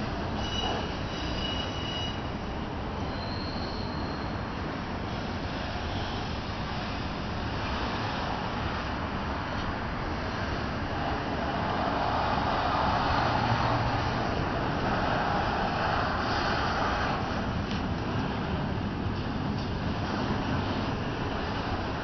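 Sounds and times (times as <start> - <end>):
train wheels on rail: 0.0 - 22.0.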